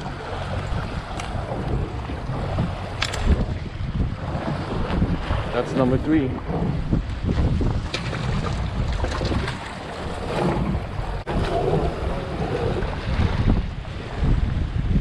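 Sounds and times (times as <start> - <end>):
waves sloshing against hull: 0.0 - 15.0
wind buffeting microphone: 0.0 - 15.0.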